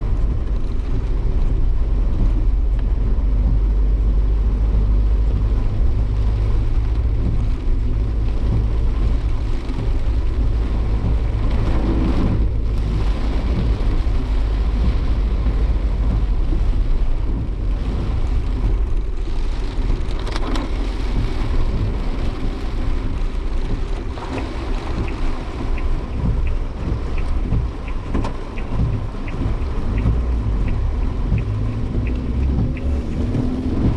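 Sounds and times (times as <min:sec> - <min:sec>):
engine and road rumble: 0:00.0 - 0:33.9
rain and wind on car body: 0:00.0 - 0:33.9.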